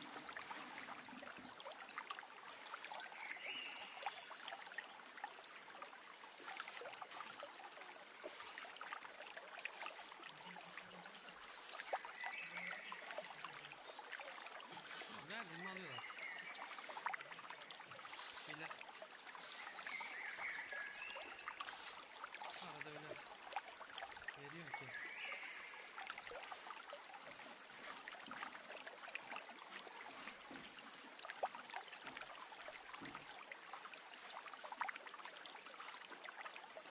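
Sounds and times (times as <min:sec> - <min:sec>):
birds chirping faintly: 0:00.0 - 0:07.5, 0:09.5 - 0:23.3, 0:24.3 - 0:36.9
stream trickling and babbling: 0:00.0 - 0:36.9.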